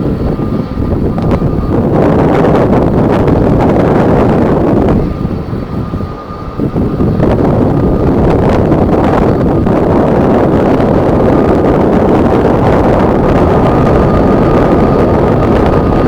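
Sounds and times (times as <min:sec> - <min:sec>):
jet airliner noise: 0:00.0 - 0:16.0
wind buffeting microphone: 0:00.0 - 0:16.0.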